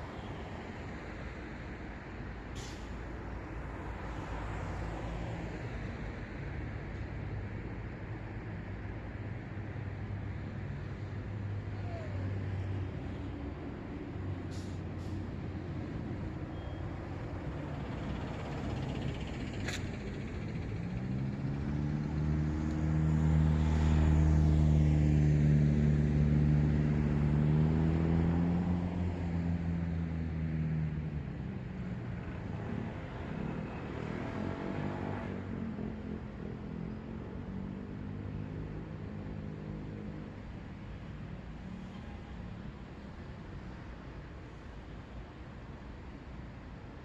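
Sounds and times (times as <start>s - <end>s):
road traffic rumbling: 0.0s - 47.0s.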